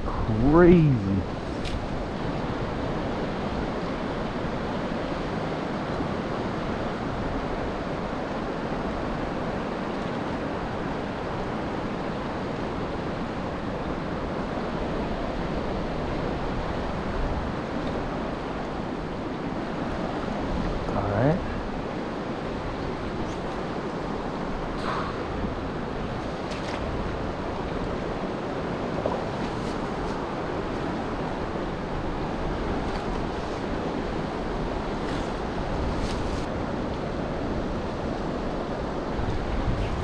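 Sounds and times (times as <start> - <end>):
flowing river water: 0.0 - 40.0.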